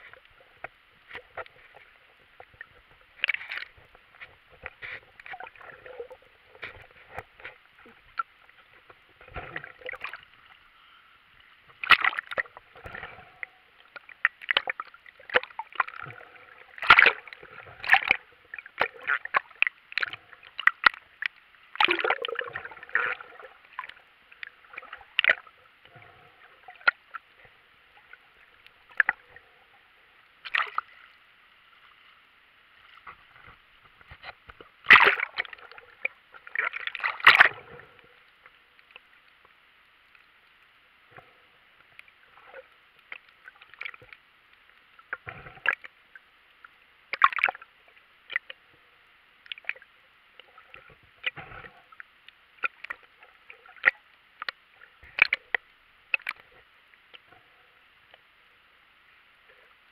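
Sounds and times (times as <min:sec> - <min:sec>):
water splashes: 0:00.0 - 0:58.2
muffled underwater hiss: 0:00.0 - 0:59.9
water sloshing and gurgling: 0:00.0 - 0:59.9.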